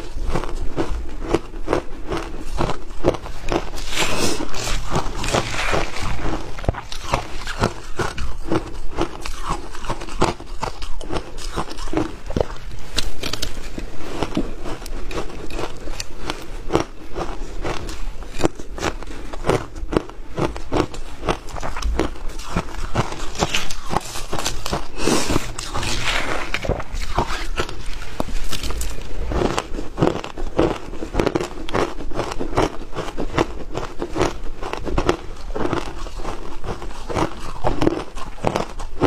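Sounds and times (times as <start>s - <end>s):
shaved ice crunching while chewed: 0.0s - 39.0s.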